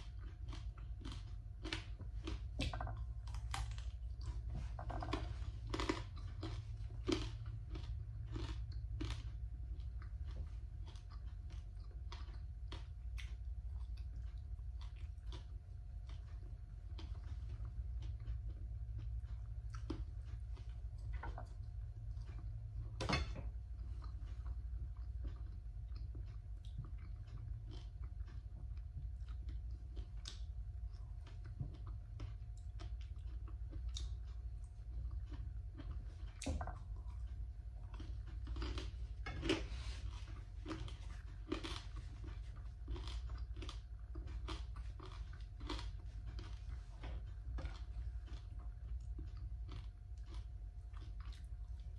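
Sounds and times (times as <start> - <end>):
person chewing and crunching food: 0.0 - 51.9
steady low hum: 0.0 - 51.9.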